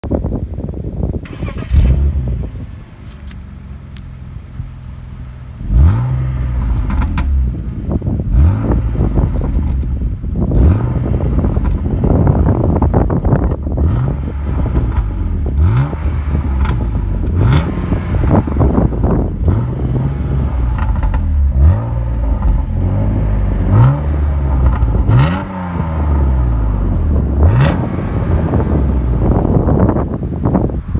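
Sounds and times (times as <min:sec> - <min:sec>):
wind buffeting microphone: 0:00.0 - 0:30.9
car engine revving: 0:01.3 - 0:30.8.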